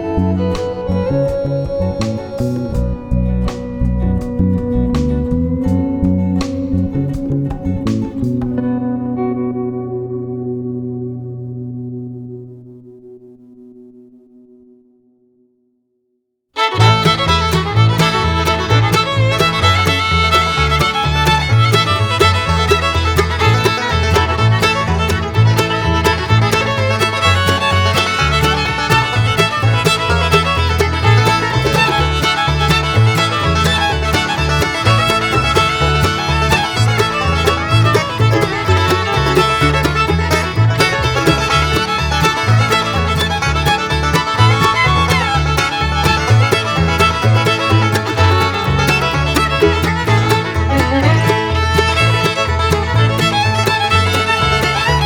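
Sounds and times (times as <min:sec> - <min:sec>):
upbeat bluegrass music: 0:00.0 - 0:09.0, 0:16.6 - 0:55.0.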